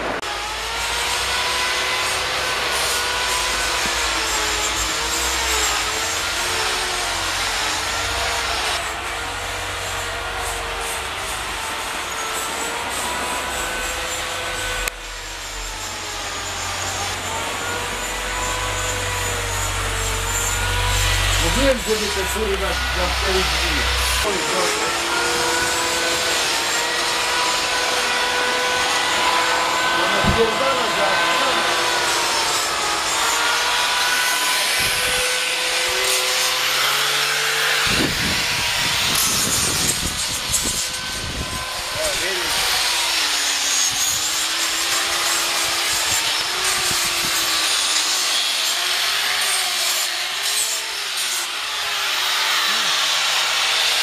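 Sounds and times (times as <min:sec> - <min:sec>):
angle grinder grinding wood: 0:00.0 - 0:54.0
motor drone: 0:00.0 - 0:54.0.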